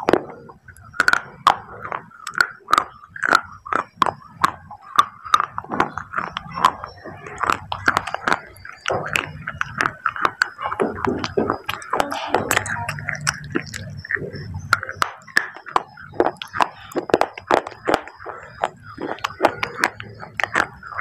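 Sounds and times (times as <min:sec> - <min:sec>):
crunching dry clay pieces: 0:00.0 - 0:21.0.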